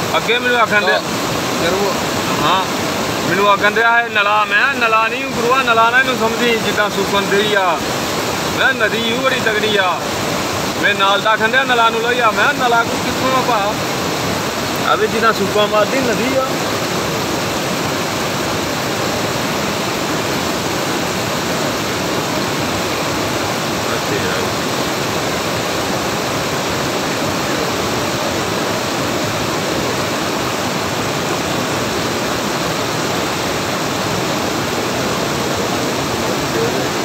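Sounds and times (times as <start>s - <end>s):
floodwater rushing over road: 0.0s - 37.0s.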